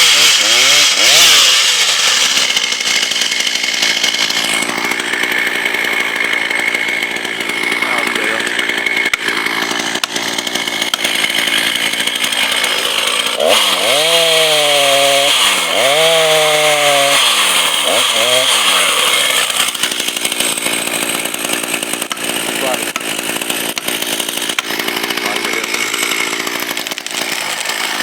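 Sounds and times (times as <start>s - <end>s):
power saw cutting wood: 0.0s - 28.0s.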